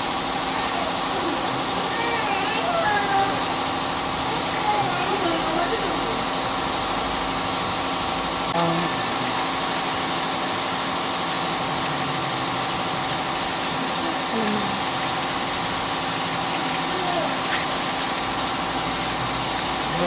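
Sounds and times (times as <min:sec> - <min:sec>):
faint voices: 0:00.0 - 0:15.0, 0:16.4 - 0:20.0
animatronic machinery hissing: 0:00.0 - 0:20.0.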